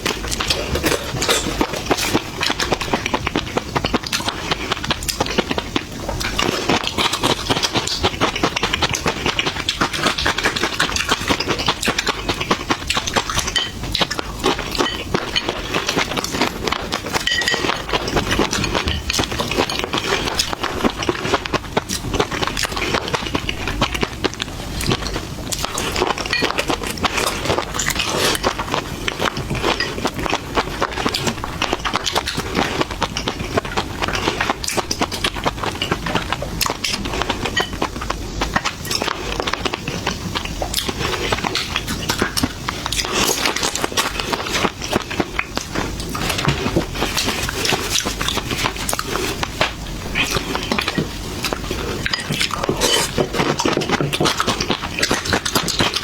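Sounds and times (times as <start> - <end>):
shells cracking and chewing: 0.0 - 56.0.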